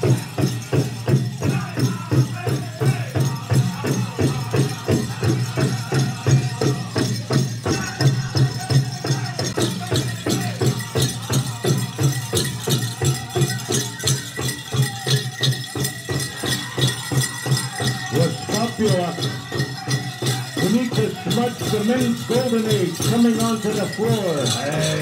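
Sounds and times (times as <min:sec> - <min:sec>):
drum steady beat: 0:00.0 - 0:25.0
jingling bells: 0:00.0 - 0:25.0
people singing: 0:00.0 - 0:25.0.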